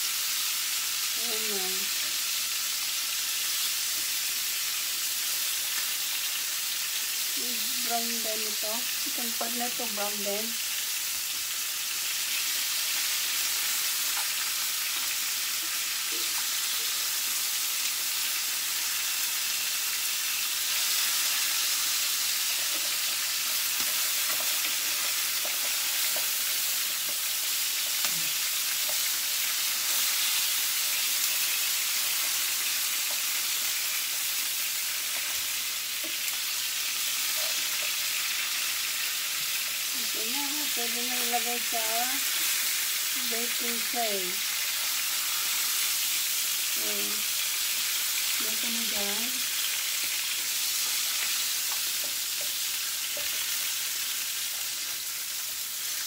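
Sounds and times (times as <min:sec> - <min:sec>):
chicken sizzling in a frying pan: 0:00.0 - 0:56.0.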